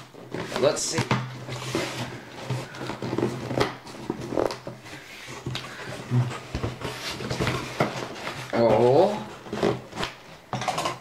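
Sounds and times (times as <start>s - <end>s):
cardboard box and paper rustling: 0.0s - 10.4s.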